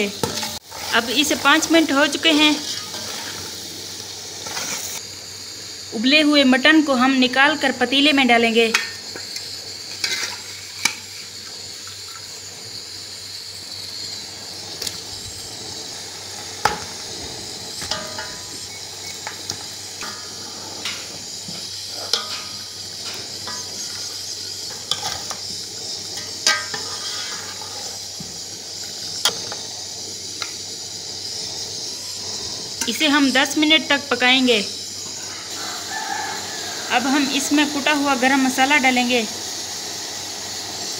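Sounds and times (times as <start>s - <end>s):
steady high hiss: 0.0s - 40.9s.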